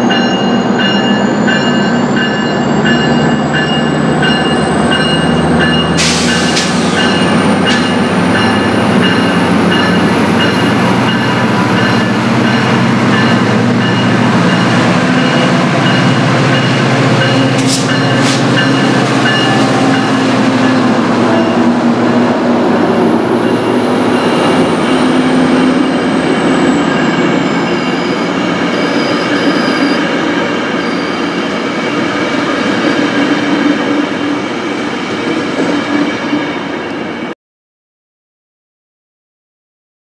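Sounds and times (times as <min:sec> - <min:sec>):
locomotive engine drone: 0:00.0 - 0:35.4.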